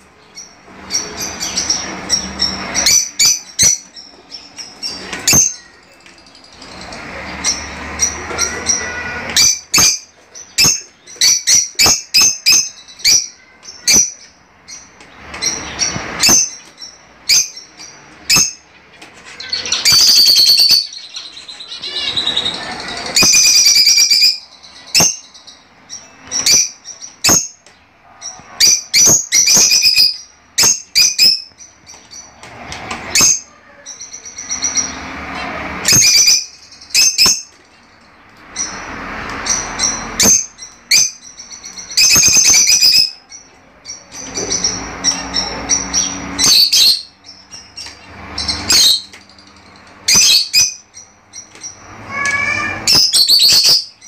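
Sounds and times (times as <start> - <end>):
lovebirds chattering: 0.0 - 54.0
lovebirds chirping shrilly: 0.0 - 54.0.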